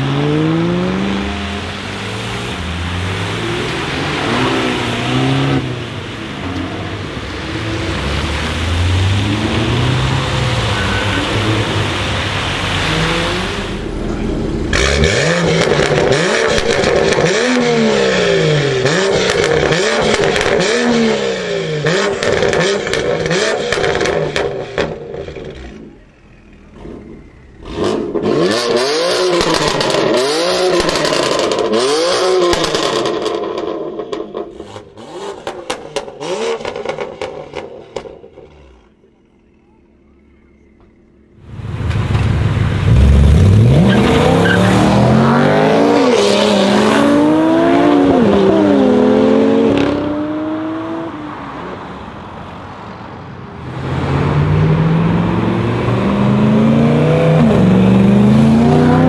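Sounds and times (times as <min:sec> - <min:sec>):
car engine revving: 0:00.0 - 0:52.4, 0:53.6 - 0:59.0
traffic on wet road: 0:00.0 - 0:59.0.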